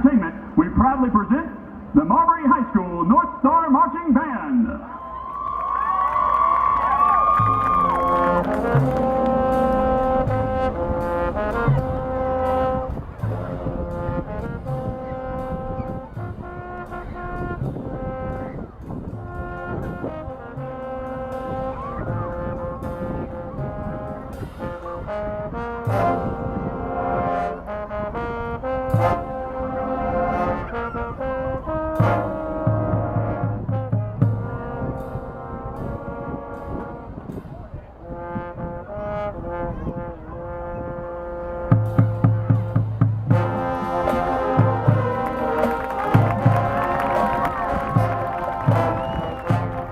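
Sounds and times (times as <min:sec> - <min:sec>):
marching band playing: 0:00.0 - 0:04.8, 0:05.9 - 0:49.9
brass section holding chords: 0:07.3 - 0:49.9.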